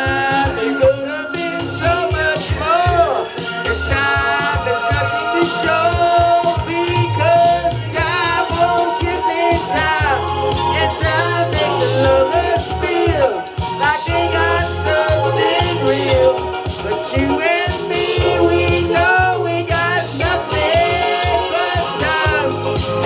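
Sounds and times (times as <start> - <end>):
person singing: 0.0 - 23.0
pop backing track with bass: 0.0 - 23.0.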